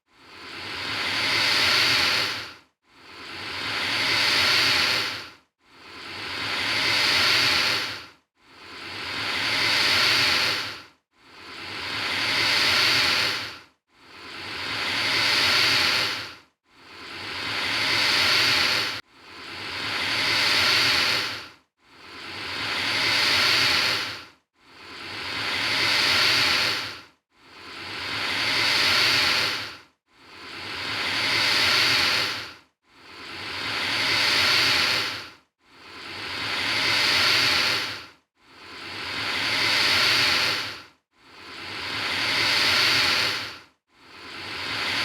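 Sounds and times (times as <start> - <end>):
alligator hissing: 0.2 - 2.5, 3.1 - 5.2, 5.9 - 8.0, 8.7 - 10.8, 11.4 - 13.6, 14.2 - 16.3, 16.9 - 21.4, 22.0 - 27.0, 27.6 - 35.2, 36.0 - 38.0, 38.7 - 40.8, 41.4 - 43.6, 44.3 - 45.0.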